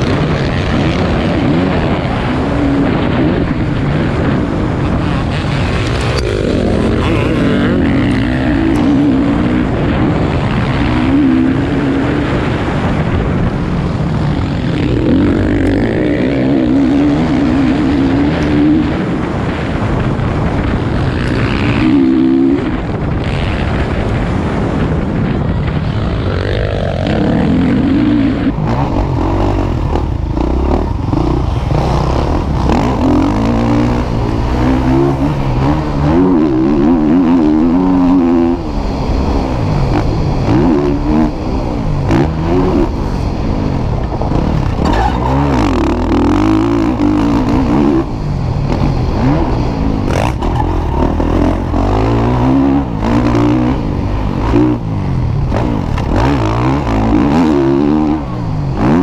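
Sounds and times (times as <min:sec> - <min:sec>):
continuous low rumble: 0:00.0 - 0:59.0
motocross bike engines revving: 0:00.0 - 0:59.0.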